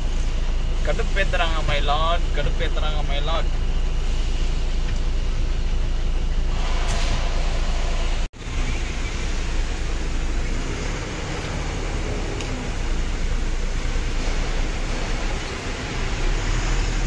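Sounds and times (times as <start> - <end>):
lorry cab rumble and hiss: 0.0 - 17.0.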